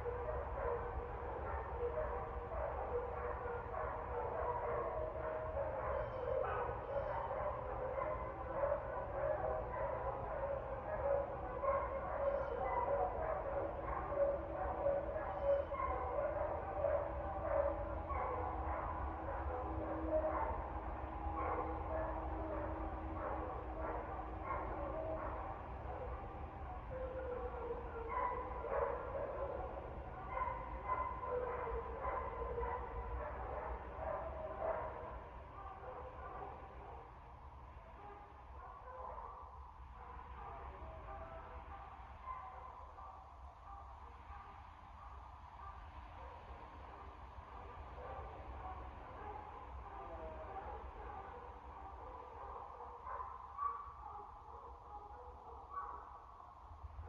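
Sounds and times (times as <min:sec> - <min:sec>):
dogs barking and yipping: 0:00.0 - 0:37.2, 0:37.9 - 0:56.4.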